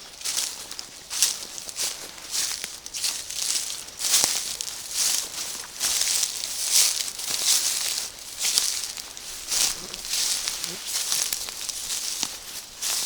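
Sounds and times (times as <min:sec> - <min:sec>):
footsteps through undergrowth: 0:00.0 - 0:13.0
leaves swishing against clothing: 0:00.3 - 0:13.0.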